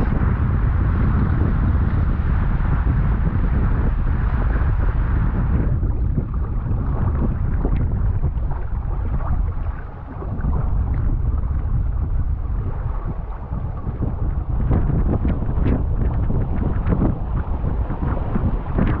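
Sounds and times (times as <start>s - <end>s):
water rushing along a hull: 0.0s - 19.0s
wind rumble on microphone: 0.0s - 19.0s.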